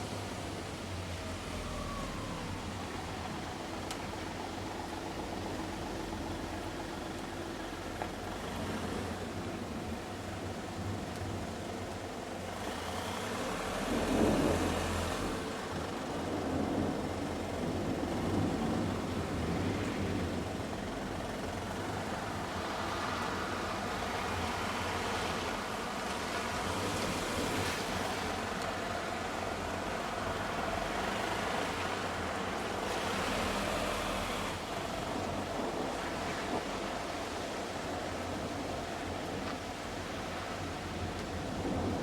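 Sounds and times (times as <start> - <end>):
rain: 0.0 - 42.0
tyres hissing on wet road: 0.0 - 42.0.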